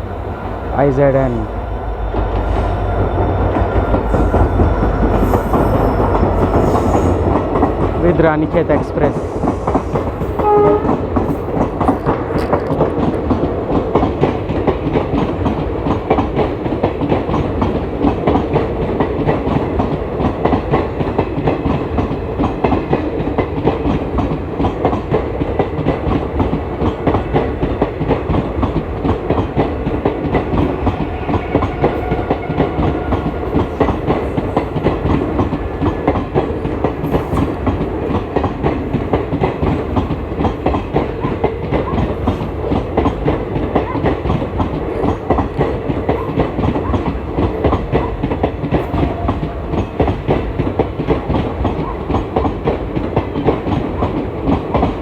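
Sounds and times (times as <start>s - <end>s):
train rumble: 0.0s - 55.0s
train wheels clickety-clack: 0.0s - 55.0s.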